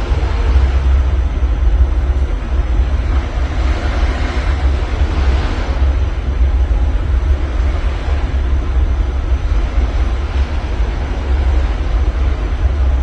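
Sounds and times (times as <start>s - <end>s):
ocean waves washing on shore: 0.0s - 13.0s
wind buffeting microphone: 0.0s - 13.0s.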